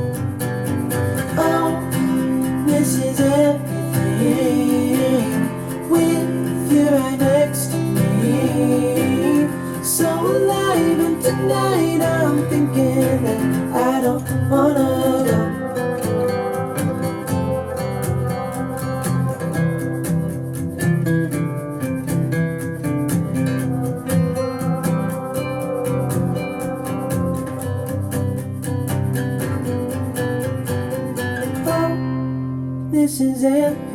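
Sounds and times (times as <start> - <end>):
acoustic guitar strumming: 0.0 - 33.9
person singing: 1.3 - 20.7, 23.2 - 29.6, 31.6 - 32.2, 32.9 - 33.9.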